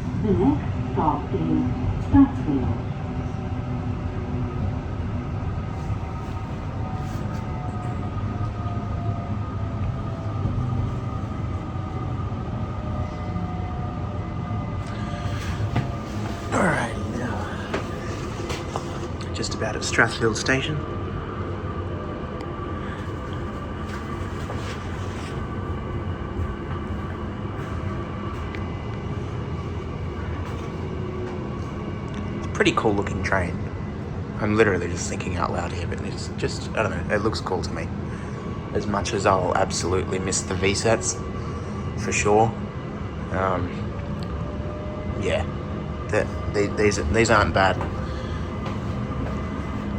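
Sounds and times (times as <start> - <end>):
train wheels rumbling on track: 2.0 - 21.3, 22.6 - 49.9.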